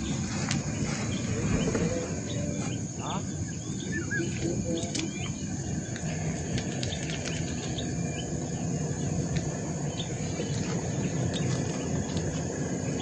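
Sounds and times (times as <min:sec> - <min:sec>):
insects droning: 0:00.0 - 0:13.0
low rumbling background: 0:00.0 - 0:13.0.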